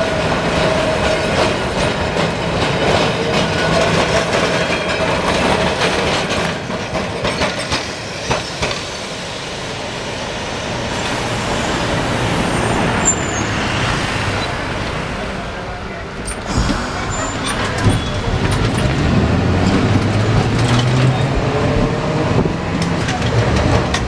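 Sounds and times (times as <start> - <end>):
tram wheels clattering over rail joints: 0.0 - 15.1, 16.0 - 24.0
tram rumbling along: 0.0 - 24.0.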